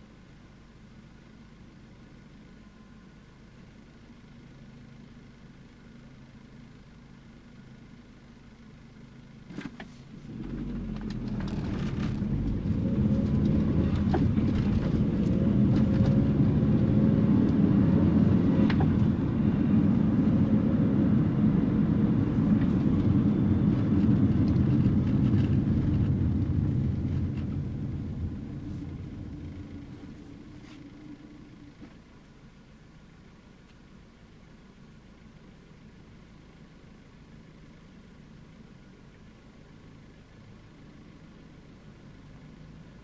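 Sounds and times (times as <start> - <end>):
car engine driving: 0.0 - 43.0
road noise: 0.0 - 43.0.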